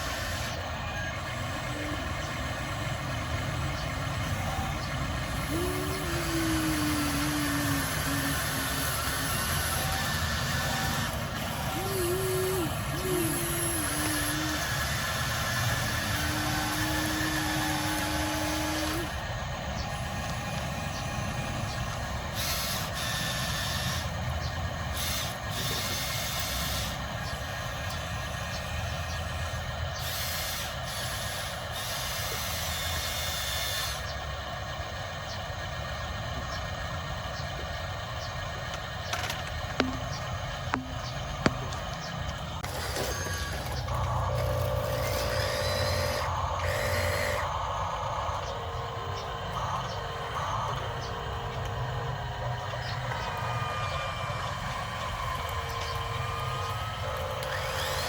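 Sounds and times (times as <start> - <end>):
rc trucks hissing and rumbling: 0.0 - 58.0.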